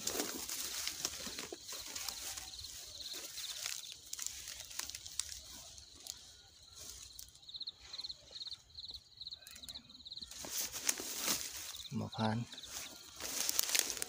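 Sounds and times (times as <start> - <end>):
footsteps crunching dry grass: 0.0 - 8.1, 10.2 - 14.0
insect chirping trills: 0.0 - 14.0.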